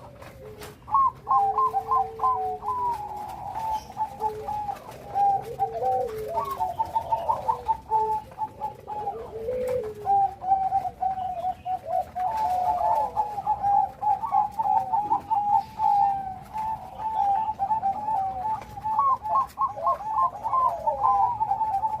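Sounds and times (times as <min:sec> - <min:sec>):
dove cooing in trilled phrases: 0:00.0 - 0:22.0
lower falling coo: 0:00.0 - 0:22.0.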